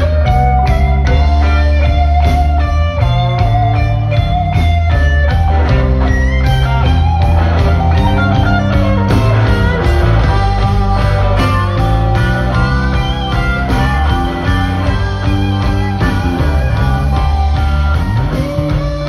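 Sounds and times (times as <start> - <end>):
blues band playing: 0.0 - 19.0
blues harmonica long notes: 0.0 - 19.0.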